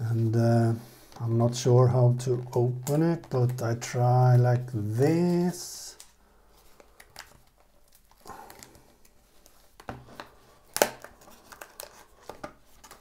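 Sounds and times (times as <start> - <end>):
cardboard packaging crinkling: 2.2 - 13.0.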